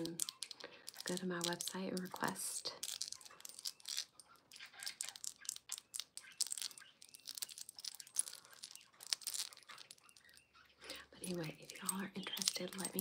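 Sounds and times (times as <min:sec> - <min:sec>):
metal chain links clinking: 0:00.0 - 0:10.4, 0:11.2 - 0:13.0.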